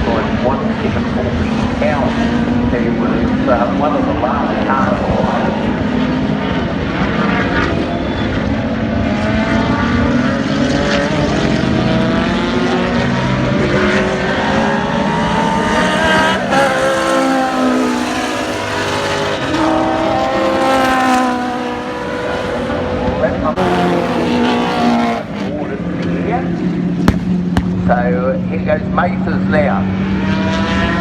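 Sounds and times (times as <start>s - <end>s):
race car engines revving: 0.0s - 28.0s, 28.8s - 31.0s.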